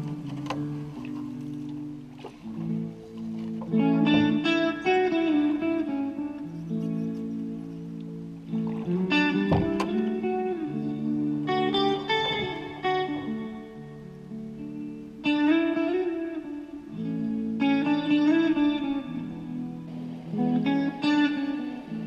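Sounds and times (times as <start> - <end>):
plucked guitar music: 0.0 - 22.0.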